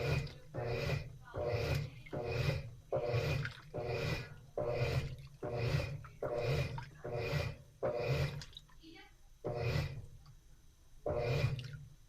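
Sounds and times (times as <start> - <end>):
washing machine motor hum: 0.0 - 12.0
water sloshing: 0.0 - 12.0.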